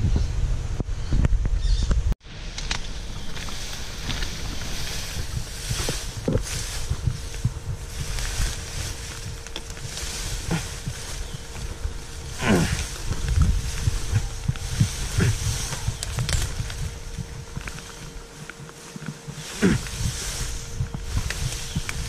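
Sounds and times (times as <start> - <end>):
wind rumble on microphone: 0.0 - 22.0
tall grass rustling: 2.2 - 22.0.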